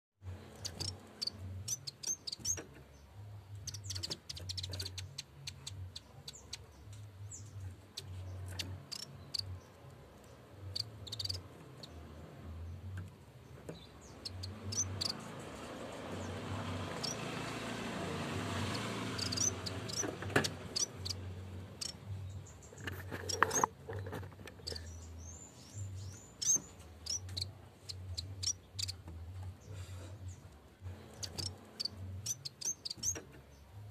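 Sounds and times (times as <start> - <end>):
warbler singing: 0.3 - 33.9.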